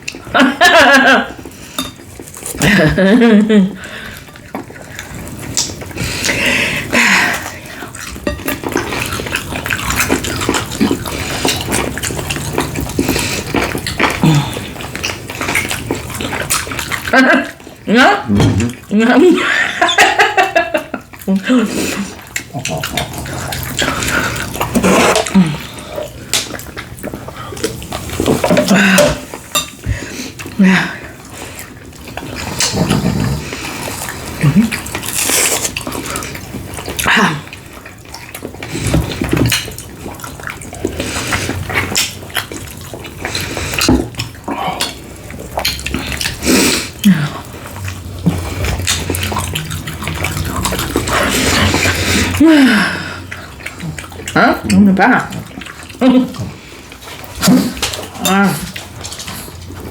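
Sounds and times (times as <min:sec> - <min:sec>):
chewing with wet mouth clicks: 0:01.3 - 0:02.7, 0:03.8 - 0:18.9, 0:20.4 - 0:59.9.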